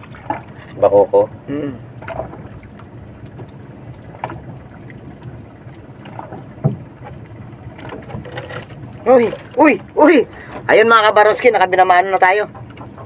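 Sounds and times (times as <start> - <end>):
water and wind noise: 0.0 - 13.0.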